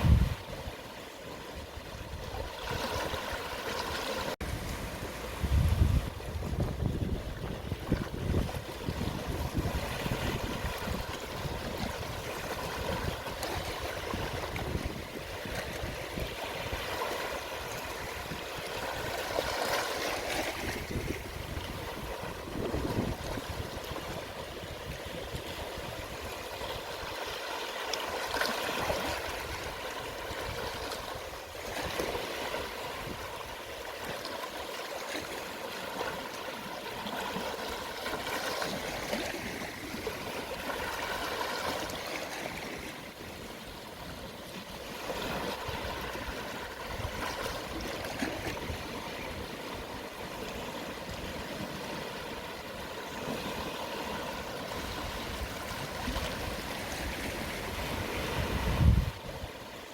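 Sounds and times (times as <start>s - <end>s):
waves lapping on shore: 0.0s - 59.9s.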